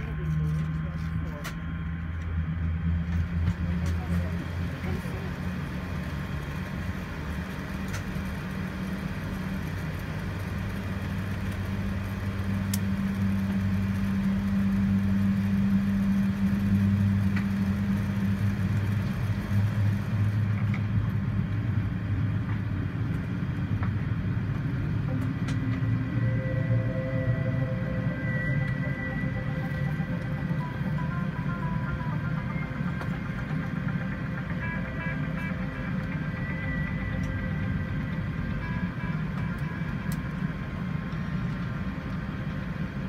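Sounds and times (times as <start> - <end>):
airplane engines rumbling: 0.0 - 43.0.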